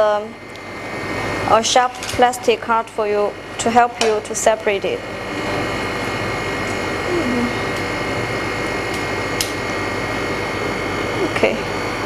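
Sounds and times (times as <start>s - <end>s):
freezer fan whirring: 0.0s - 12.0s.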